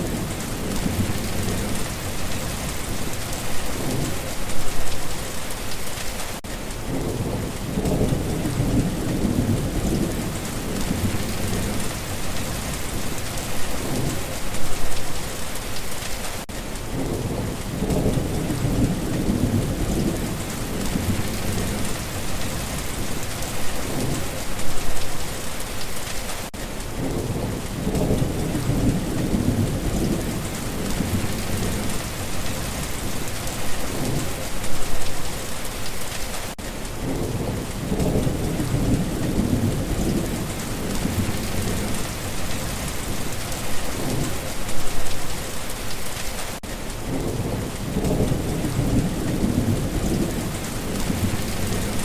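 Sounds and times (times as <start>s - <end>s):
low rolls of thunder: 0.0s - 4.9s, 6.8s - 14.8s, 16.9s - 24.6s, 26.9s - 35.0s, 37.0s - 45.0s, 47.0s - 52.0s
heavy rain hissing: 0.0s - 52.0s.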